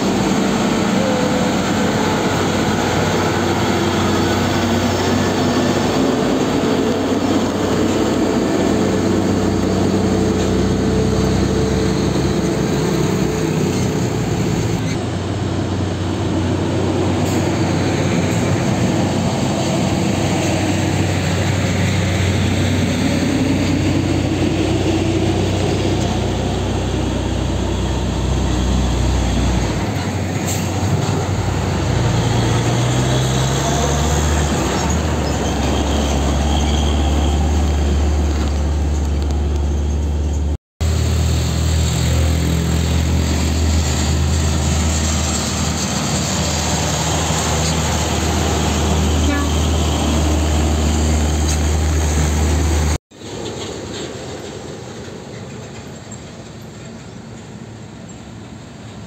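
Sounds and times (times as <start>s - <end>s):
diesel trucks climbing under load: 0.0s - 59.0s.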